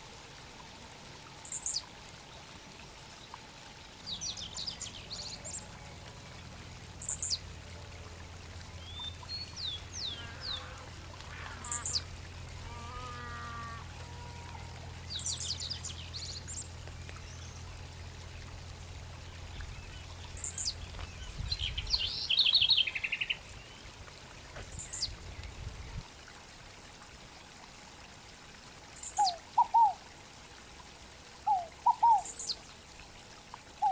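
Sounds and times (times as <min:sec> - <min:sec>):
faint trickle of water: 0:00.0 - 0:33.9.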